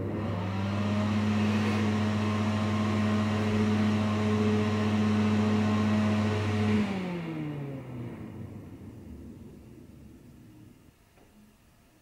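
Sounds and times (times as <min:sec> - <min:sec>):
fan blades winding down: 0:00.0 - 0:11.0
exhaust fan humming: 0:00.0 - 0:12.0.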